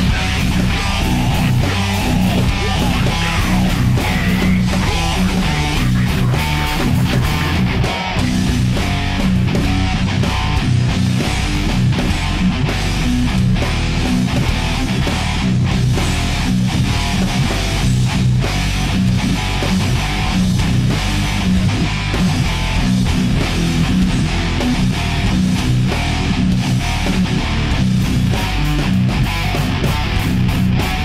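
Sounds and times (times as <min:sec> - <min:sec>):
rock music: 0:00.0 - 0:31.0.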